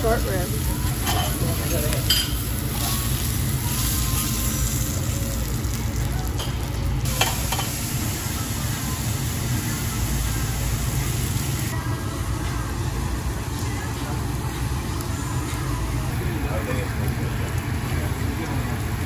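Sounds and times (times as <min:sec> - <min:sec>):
meat sizzling on a grill: 0:00.0 - 0:11.9, 0:12.5 - 0:19.0.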